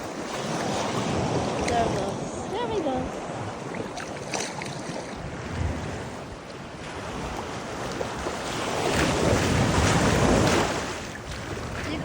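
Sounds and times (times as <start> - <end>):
surf washing on a beach: 0.0 - 12.0
wind buffeting microphone: 0.0 - 12.0.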